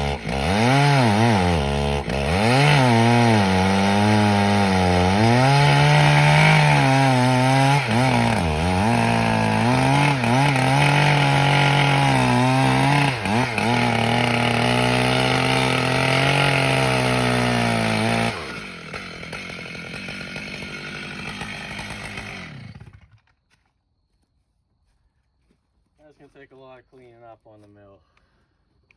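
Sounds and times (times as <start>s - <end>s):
chainsaw cutting wood: 0.0s - 23.5s.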